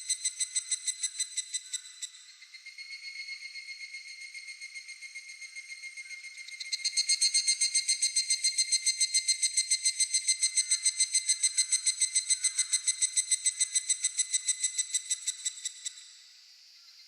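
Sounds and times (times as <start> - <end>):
cicada pulsing trill: 0.0 - 16.0
faint insect drone: 0.0 - 17.0.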